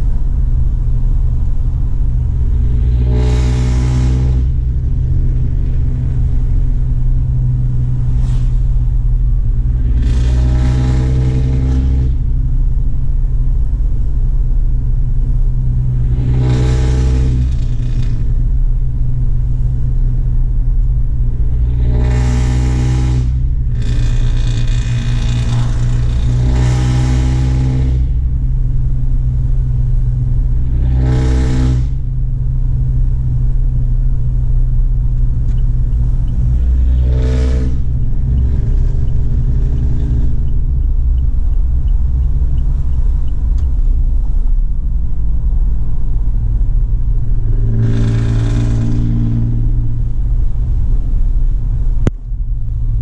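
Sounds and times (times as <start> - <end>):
truck exhaust droning and roaring: 0.0 - 53.0.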